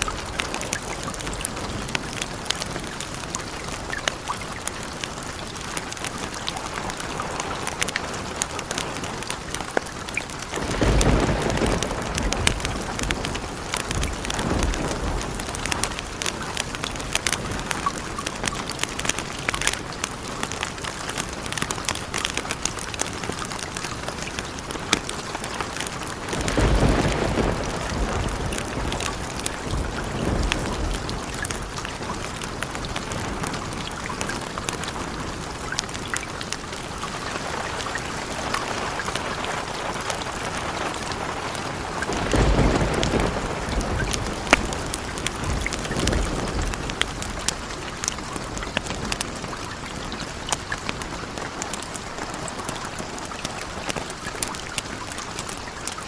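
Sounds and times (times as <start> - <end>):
thunder rumbling: 0.0 - 19.0, 24.7 - 36.0, 36.6 - 53.1
sharp drips: 0.0 - 56.0
steady rain: 0.0 - 56.0.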